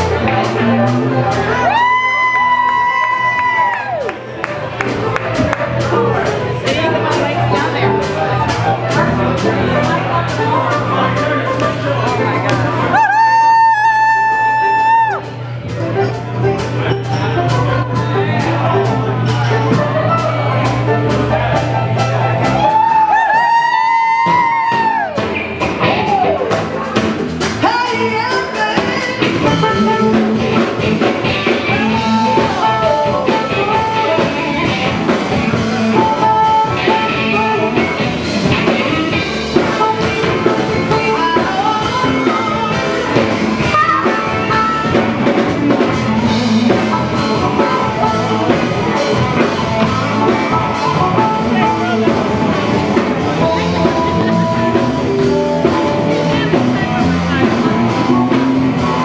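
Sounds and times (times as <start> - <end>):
drum kit: 0.0 - 59.0
electric guitar lead notes: 0.0 - 59.0.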